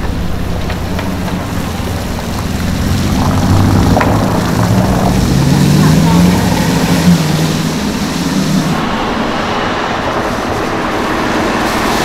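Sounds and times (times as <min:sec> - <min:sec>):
car engine driving past: 0:00.0 - 0:12.0.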